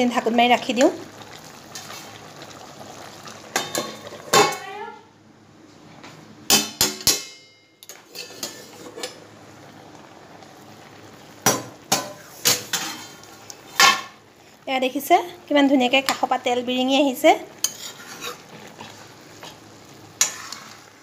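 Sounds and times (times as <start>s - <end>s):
curry simmering hiss: 0.0s - 4.9s, 8.0s - 21.0s.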